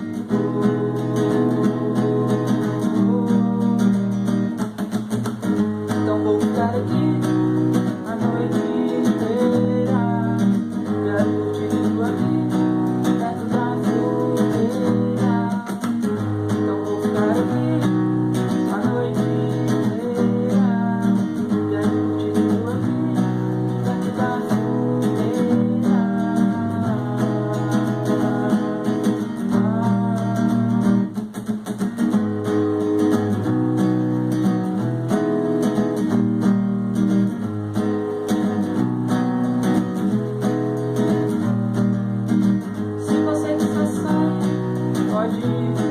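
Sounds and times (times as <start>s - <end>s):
acoustic guitar music: 0.0s - 45.9s.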